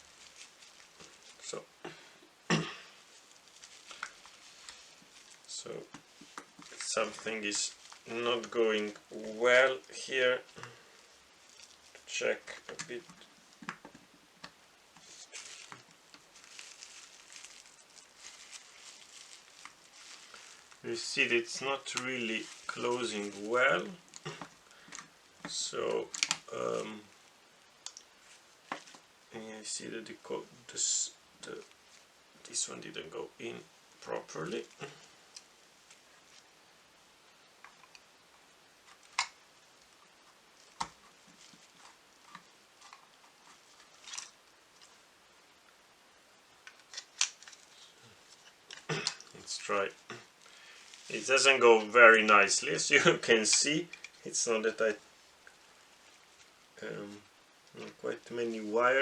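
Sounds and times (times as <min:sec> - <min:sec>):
plastic rustling and scraping: 0:00.0 - 0:29.8, 0:31.4 - 0:36.6, 0:37.6 - 0:45.1, 0:46.5 - 0:59.0.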